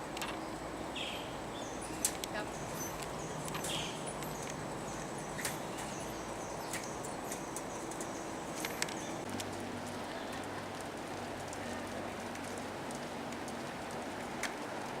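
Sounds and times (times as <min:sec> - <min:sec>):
rainforest hiss: 0:00.0 - 0:15.0.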